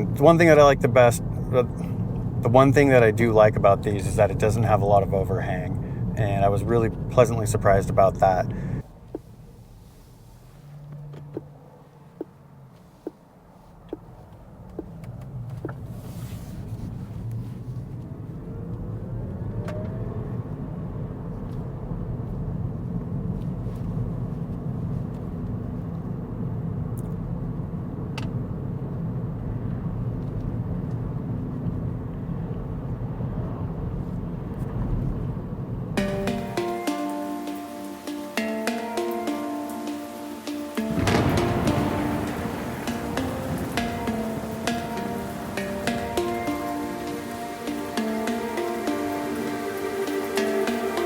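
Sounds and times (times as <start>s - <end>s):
tyre and road noise: 0.0s - 51.0s.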